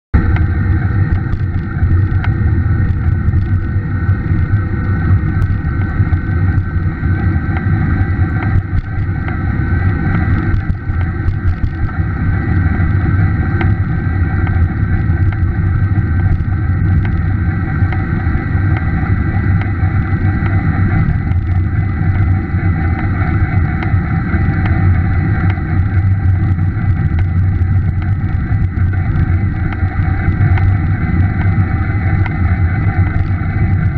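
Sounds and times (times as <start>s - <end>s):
wind noise on microphone: 0.1s - 33.9s
faint ticks from motor: 0.2s - 33.9s.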